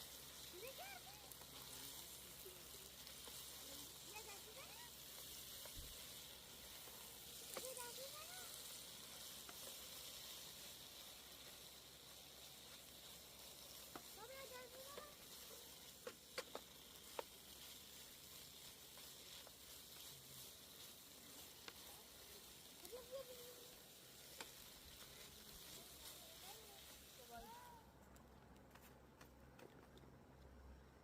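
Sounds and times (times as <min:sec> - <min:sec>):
food sizzling in frying: 0:00.0 - 0:27.9.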